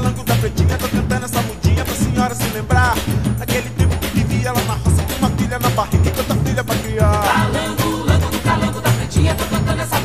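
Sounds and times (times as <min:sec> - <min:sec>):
person singing: 0:00.0 - 0:10.0
upbeat song with steady beat: 0:00.0 - 0:10.0.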